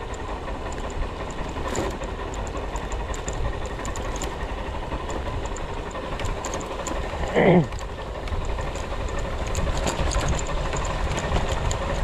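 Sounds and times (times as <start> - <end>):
engine and road rumble: 0.0 - 12.0
small rattling clicks: 0.0 - 12.0.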